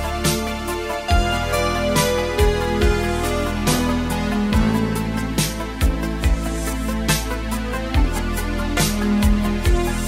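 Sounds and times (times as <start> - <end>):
kick drum and cymbal beat: 0.0 - 10.0.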